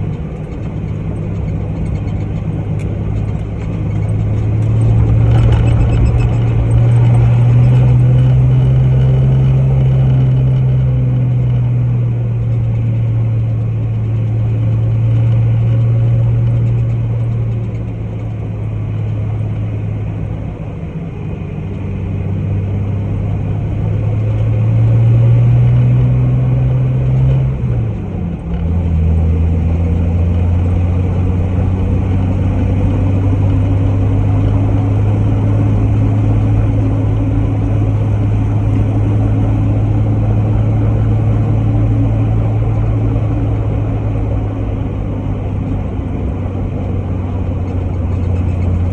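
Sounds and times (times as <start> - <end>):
jeep engine driving: 0.0 - 48.9.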